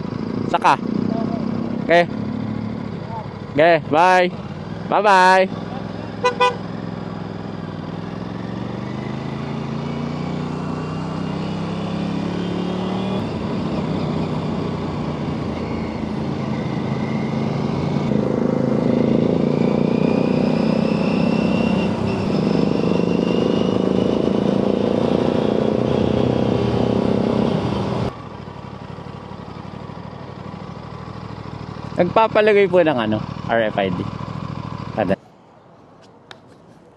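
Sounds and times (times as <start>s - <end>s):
motorcycle engine accelerating: 0.0s - 35.2s.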